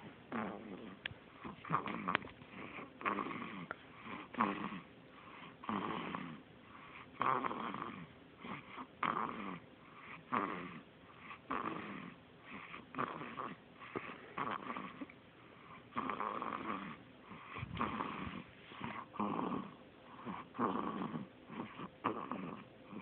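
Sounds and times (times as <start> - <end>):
baby snoring: 0.3 - 23.0.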